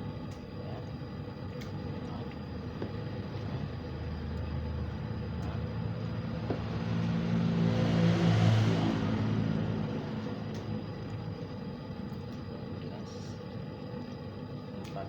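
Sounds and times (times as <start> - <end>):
machine rumble and hum: 0.0 - 15.0.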